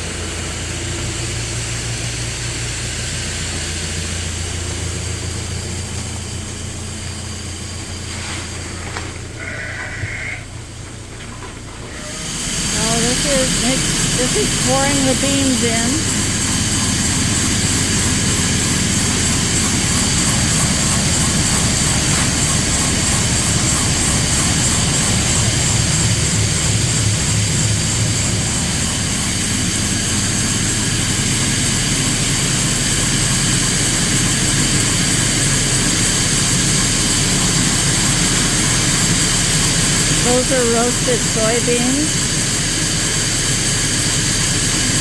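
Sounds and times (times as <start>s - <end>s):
feed mixer droning: 0.0s - 45.0s.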